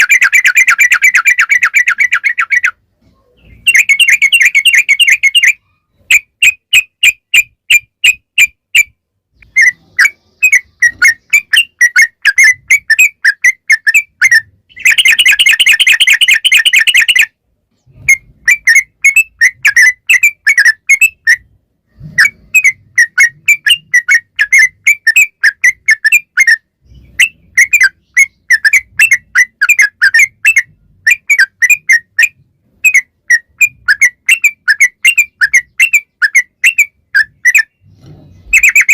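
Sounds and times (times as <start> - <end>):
bulbul singing: 0.0 - 2.8, 3.4 - 21.6, 22.2 - 38.9.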